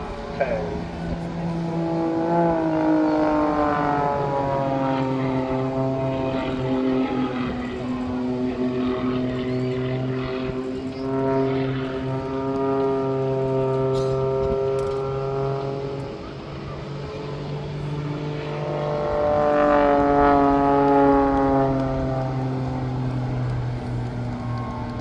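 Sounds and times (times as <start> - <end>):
propeller engine at high power: 0.0 - 25.0.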